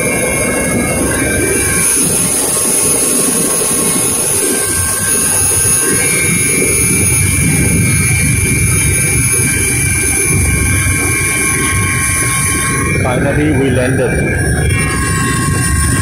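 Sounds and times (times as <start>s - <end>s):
helicopter engine and rotor drone: 0.0s - 16.0s
high turbine whines: 0.0s - 16.0s.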